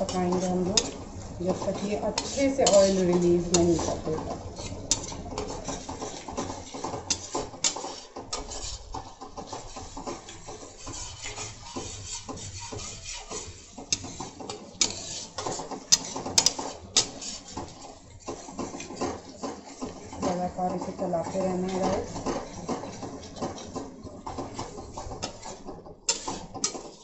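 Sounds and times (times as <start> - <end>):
metal spatula scraping pan: 0.0 - 27.0.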